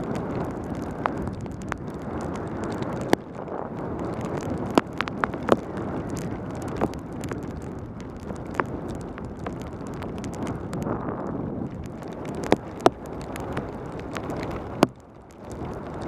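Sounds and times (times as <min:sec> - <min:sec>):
wind rushing over camera: 0:00.0 - 0:16.0.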